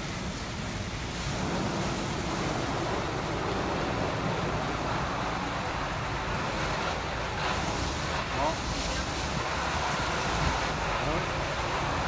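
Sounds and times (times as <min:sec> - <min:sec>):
water spray: 0:00.0 - 0:12.0.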